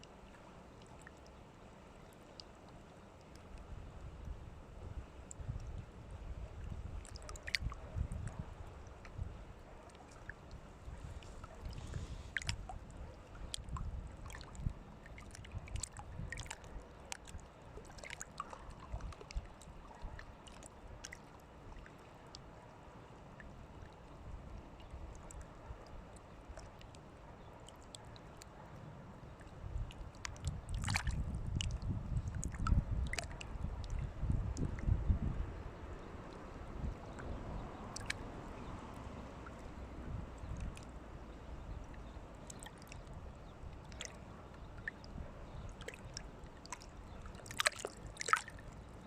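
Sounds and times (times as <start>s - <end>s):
small splashes and clicks: 0.0s - 4.4s, 5.2s - 5.8s, 7.0s - 9.2s, 9.8s - 22.6s, 23.3s - 34.9s, 37.1s - 39.7s, 40.4s - 41.0s, 41.8s - 48.9s
water sloshing and gurgling: 0.1s - 49.0s.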